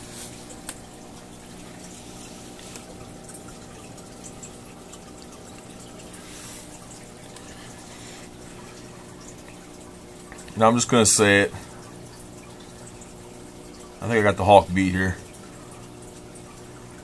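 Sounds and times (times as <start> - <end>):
pump electrical hum: 0.0 - 17.0
water trickling and dripping: 0.0 - 17.0.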